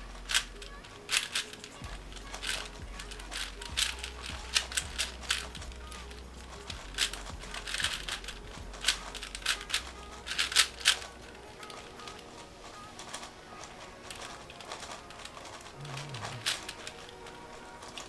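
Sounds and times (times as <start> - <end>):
plastic speed cube clicking: 0.2 - 18.0.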